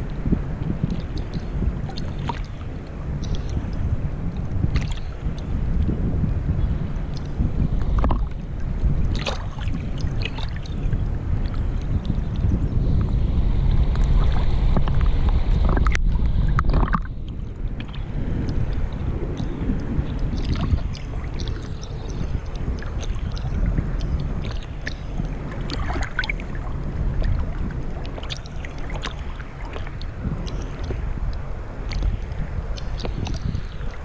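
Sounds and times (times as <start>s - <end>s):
heavy low rumble: 0.0s - 34.0s
lake water lapping and sloshing: 0.0s - 34.0s
small water splashes and drips: 0.8s - 3.8s, 4.4s - 5.9s, 7.1s - 8.4s, 9.1s - 12.5s, 13.9s - 34.0s.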